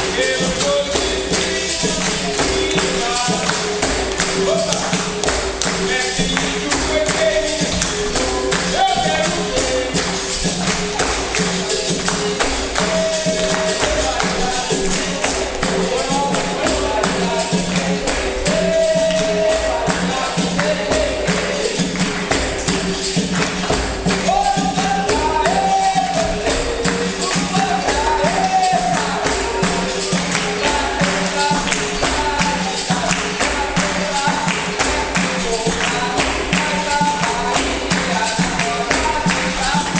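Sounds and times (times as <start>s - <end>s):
percussion rhythm: 0.0s - 39.9s
voices singing: 0.0s - 39.9s.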